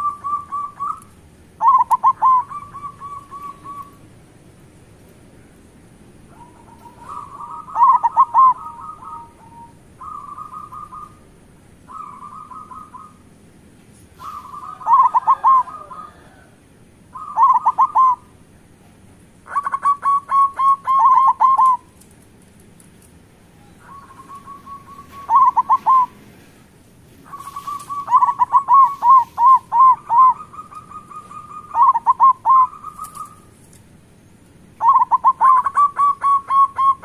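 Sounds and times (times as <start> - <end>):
doves cooing: 0.0 - 4.1, 6.2 - 13.4, 14.2 - 18.4, 19.5 - 22.0, 23.6 - 26.6, 27.2 - 33.6, 34.8 - 37.0.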